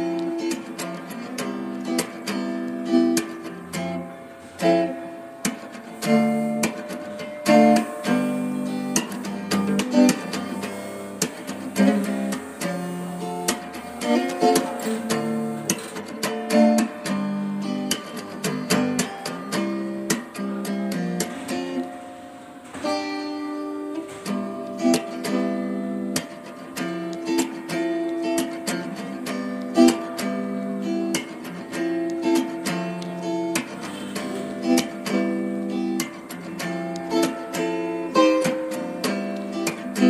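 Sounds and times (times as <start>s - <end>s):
strummed acoustic guitar: 0.0s - 40.0s.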